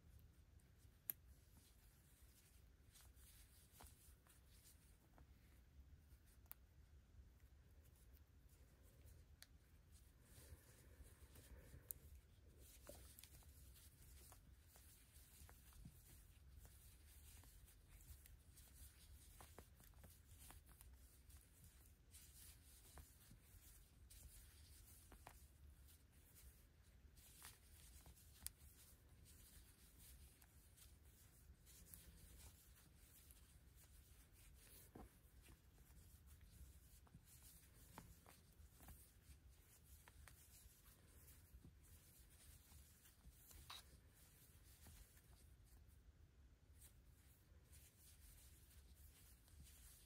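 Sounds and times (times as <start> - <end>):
low room hum: 0.0 - 50.0.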